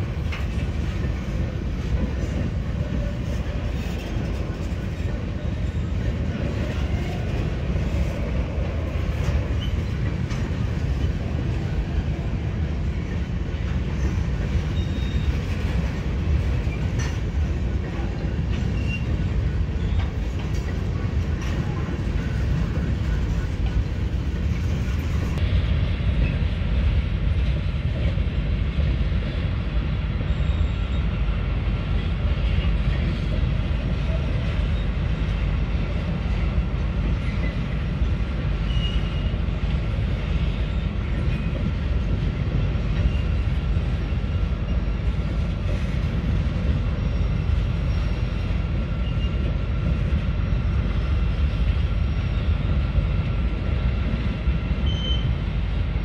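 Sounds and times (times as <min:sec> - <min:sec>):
freight train rumbling on track: 0:00.0 - 0:56.0.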